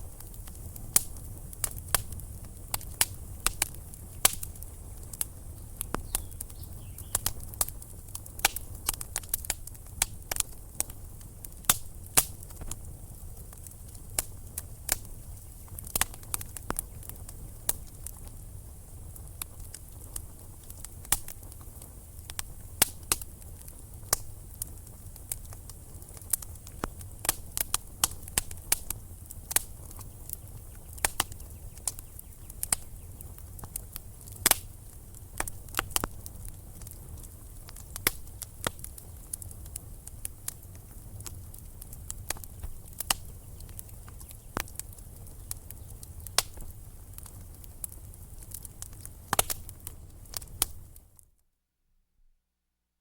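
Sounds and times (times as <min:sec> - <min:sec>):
low rumble of flames: 0:00.0 - 0:51.2
wood fire crackling and popping: 0:00.0 - 0:51.3.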